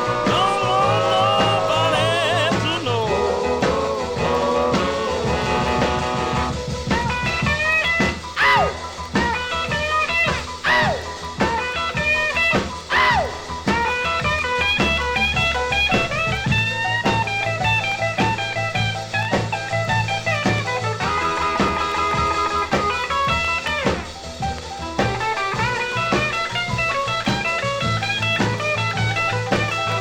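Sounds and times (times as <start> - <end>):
steady bass line: 0.0 - 30.0.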